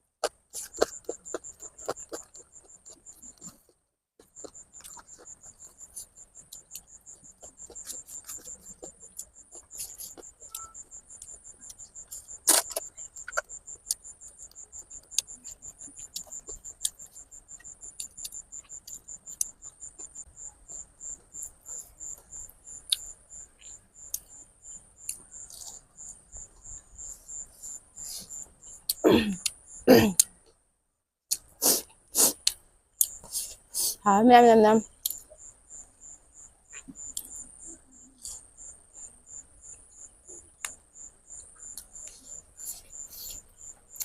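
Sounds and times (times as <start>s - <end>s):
cricket chirping: 0.2s - 30.7s, 31.3s - 44.0s.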